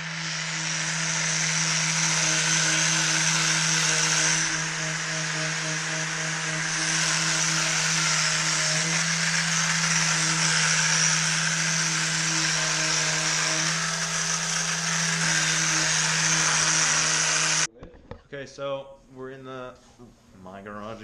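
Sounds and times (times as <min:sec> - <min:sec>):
power sander sanding: 0:00.0 - 0:17.7.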